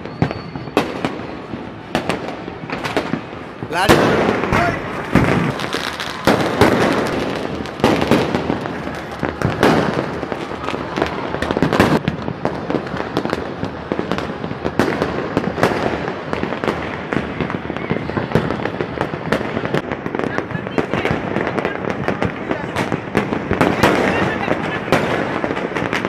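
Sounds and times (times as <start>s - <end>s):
fireworks popping and banging: 0.0s - 26.0s.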